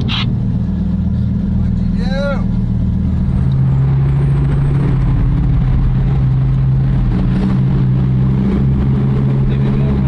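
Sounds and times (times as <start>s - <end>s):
car engine droning: 0.0s - 10.0s
road noise: 0.0s - 10.0s.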